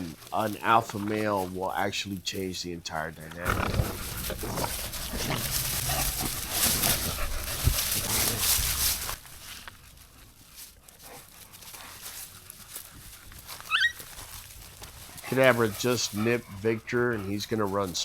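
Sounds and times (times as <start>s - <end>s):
dogs scuffling: 0.0s - 18.0s.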